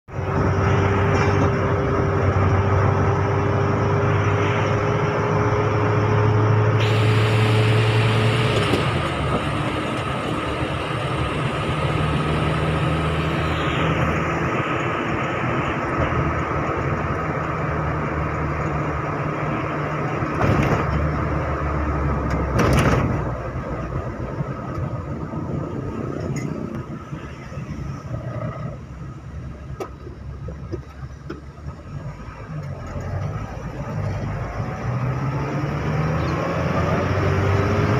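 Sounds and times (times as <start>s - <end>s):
car engine: 0.0s - 37.9s
road noise: 0.0s - 37.9s.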